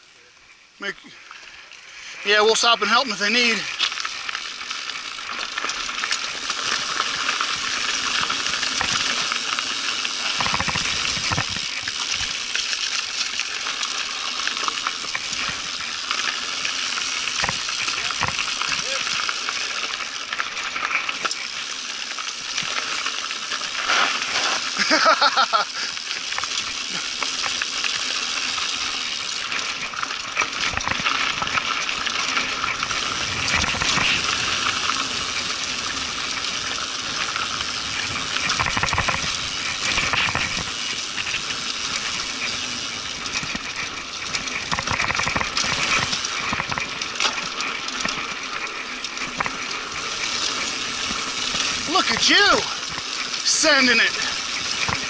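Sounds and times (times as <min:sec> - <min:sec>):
bike clattering on rough trail: 0:01.2 - 0:55.0.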